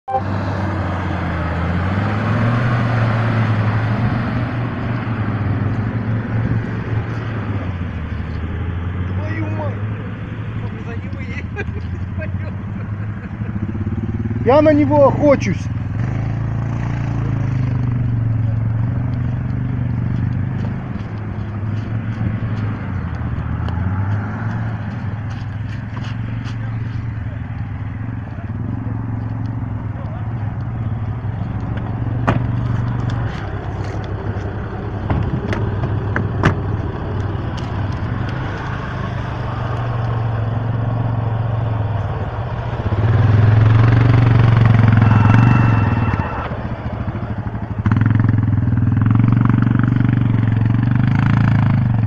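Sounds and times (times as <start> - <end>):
suv engine under heavy load: 0.1 - 52.0.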